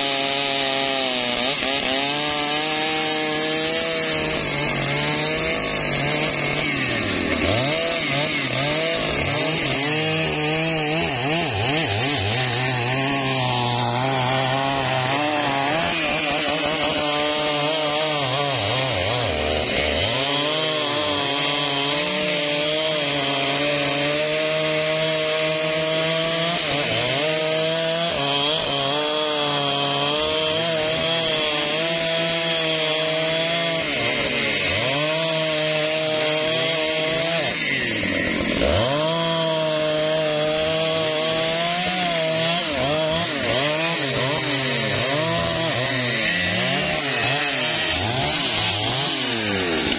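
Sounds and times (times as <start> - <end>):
chainsaws cutting through wood: 0.0 - 49.9.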